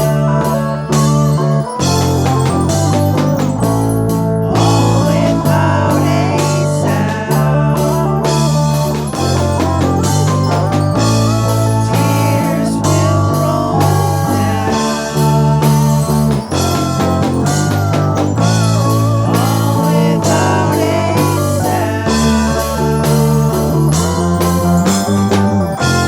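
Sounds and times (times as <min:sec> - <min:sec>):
bass guitar: 0:00.0 - 0:26.0
drums: 0:00.0 - 0:26.0
electric guitar lead: 0:00.0 - 0:26.0.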